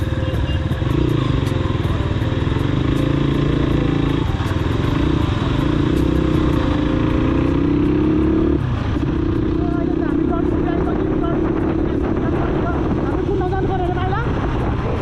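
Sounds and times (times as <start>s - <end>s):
dirt bike engine accelerating: 0.0s - 15.0s.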